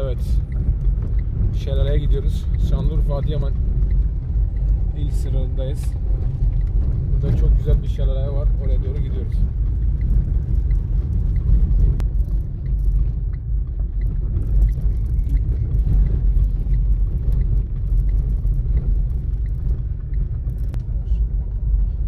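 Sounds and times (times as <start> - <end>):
tyres and engine rumbling: 0.0 - 22.0.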